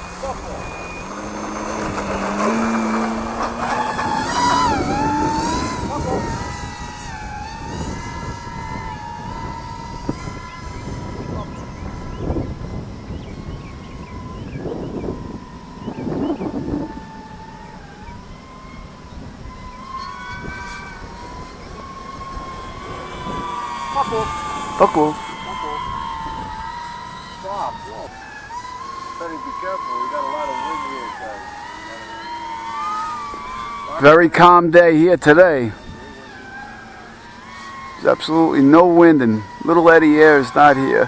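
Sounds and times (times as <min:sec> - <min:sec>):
model plane motor whining: 0:00.0 - 0:41.0.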